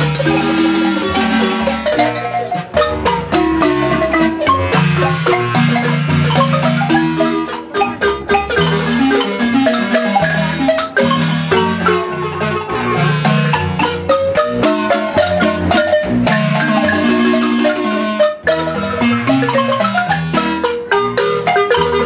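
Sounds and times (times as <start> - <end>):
marimba playing: 0.0 - 22.0.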